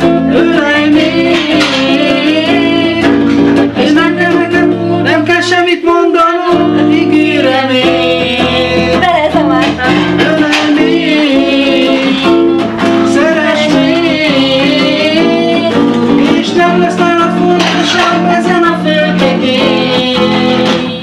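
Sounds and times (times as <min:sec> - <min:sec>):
guitar chords: 0:00.0 - 0:21.0
person singing with vibrato: 0:00.0 - 0:21.0.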